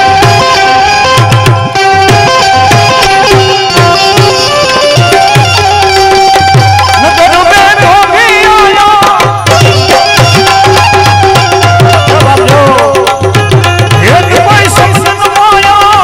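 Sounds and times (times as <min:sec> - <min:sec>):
hand drum beat: 0:00.0 - 0:16.0
sliding melody line: 0:00.0 - 0:16.0.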